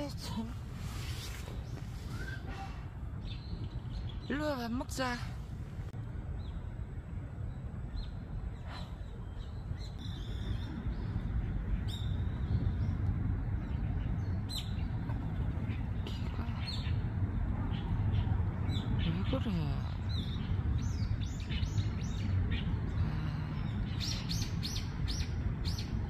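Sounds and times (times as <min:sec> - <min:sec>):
small birds chirping: 0:00.0 - 0:05.3, 0:06.3 - 0:26.0
steady low rumble: 0:00.0 - 0:26.0.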